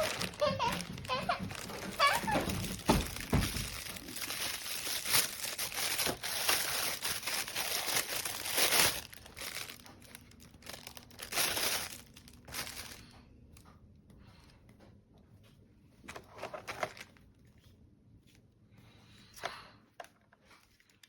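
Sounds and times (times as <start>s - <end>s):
crinkling and rustling: 0.0s - 21.0s.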